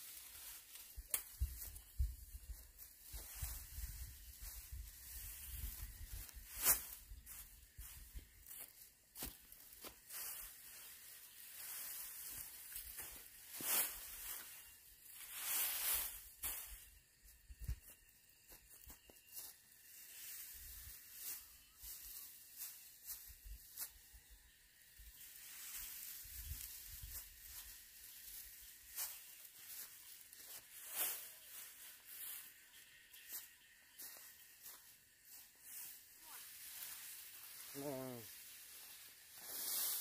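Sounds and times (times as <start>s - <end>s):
dry straw rustling and crackling: 0.0s - 40.0s.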